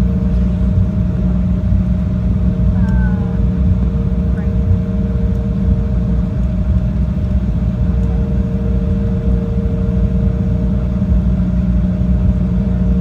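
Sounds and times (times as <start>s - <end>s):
jet engine rumble: 0.0s - 13.0s
steady cabin hums: 0.0s - 13.0s.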